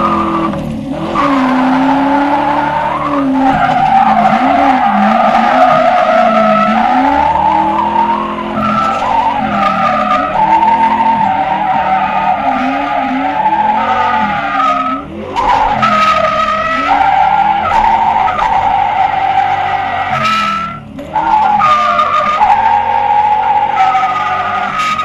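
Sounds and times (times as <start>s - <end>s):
car engine revving: 0.0s - 25.0s
tyres squealing: 0.0s - 25.0s.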